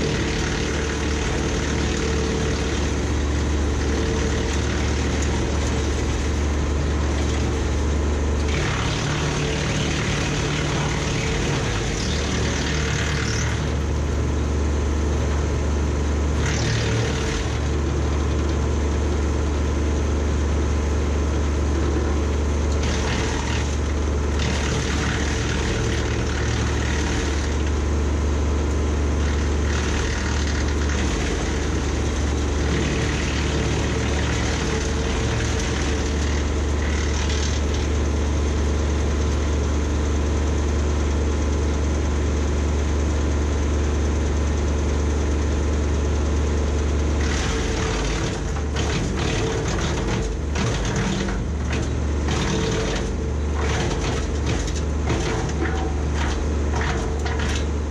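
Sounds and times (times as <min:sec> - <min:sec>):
wood chipper humming: 0:00.0 - 0:57.9.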